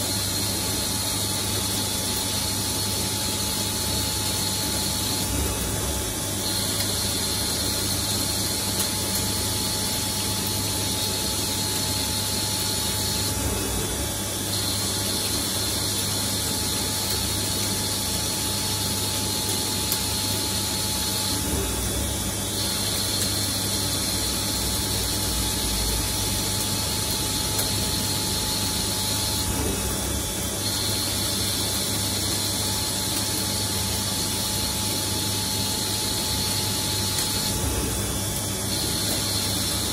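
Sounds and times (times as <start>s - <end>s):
high machine whine: 0.0s - 39.9s
lathe machining noise: 0.0s - 39.9s.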